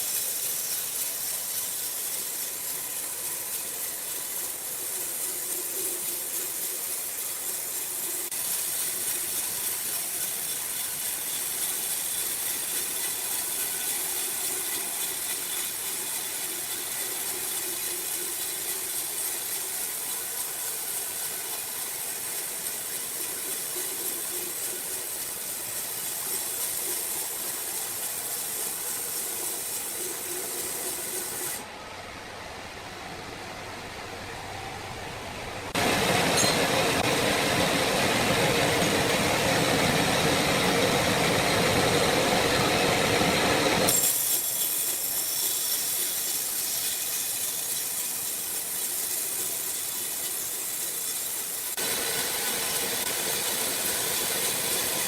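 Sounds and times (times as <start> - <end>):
saw cutting through wood: 0.0 - 31.7, 35.7 - 55.0.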